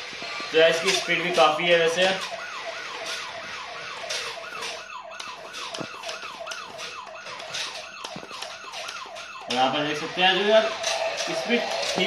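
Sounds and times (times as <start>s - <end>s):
electronic toy siren wailing: 0.0s - 12.0s.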